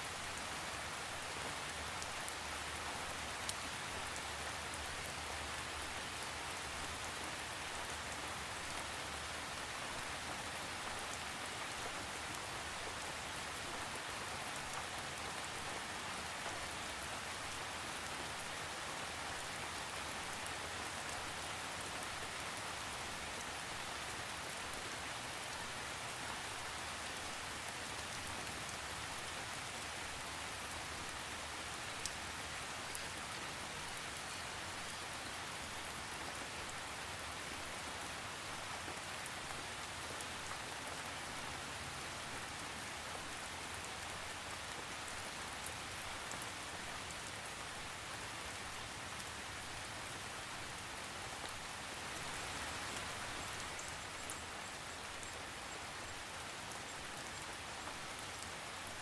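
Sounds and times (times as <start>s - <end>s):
rain hissing on a surface: 0.0s - 59.0s.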